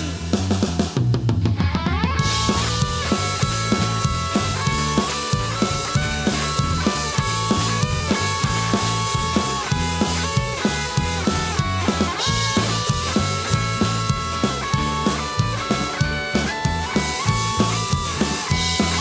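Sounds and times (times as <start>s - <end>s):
bass: 0.0s - 19.0s
drum kit beat: 0.0s - 19.0s
guitar melody: 1.6s - 19.0s.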